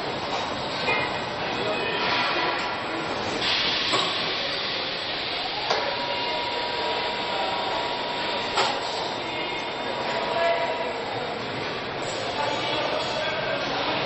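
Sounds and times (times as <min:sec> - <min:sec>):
machinery hissing: 0:02.1 - 0:14.0.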